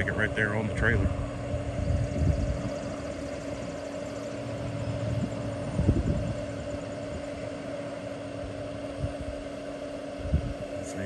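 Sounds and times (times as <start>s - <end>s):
mechanical drone with hum: 0.0s - 11.0s.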